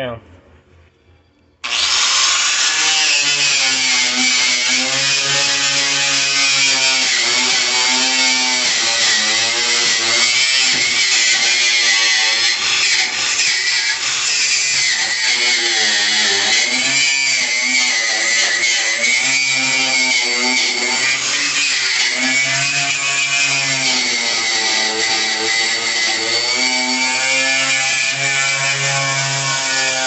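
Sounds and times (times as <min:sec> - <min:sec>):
power sander grinding metal: 0:01.6 - 0:30.0.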